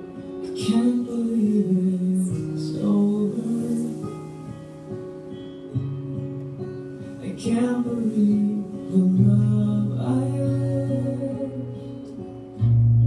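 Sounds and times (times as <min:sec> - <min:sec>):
person singing: 0:00.0 - 0:12.7
acoustic guitar: 0:00.0 - 0:13.0.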